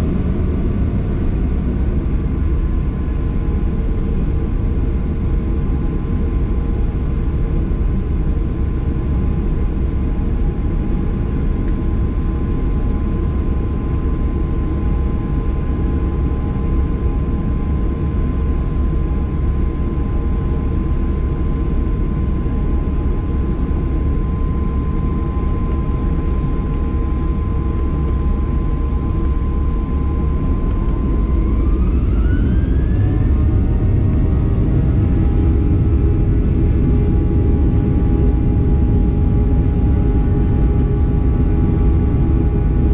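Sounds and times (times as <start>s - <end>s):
jet engines humming and whining: 0.0s - 42.9s.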